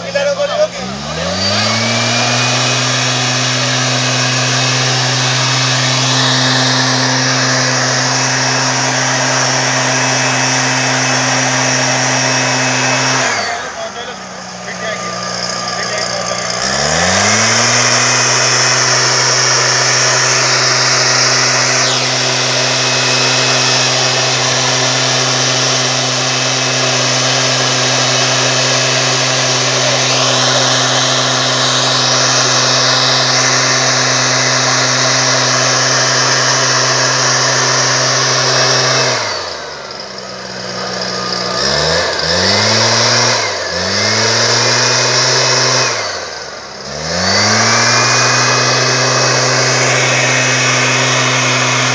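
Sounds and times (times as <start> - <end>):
two-stroke blower engine revving: 0.0 - 51.9.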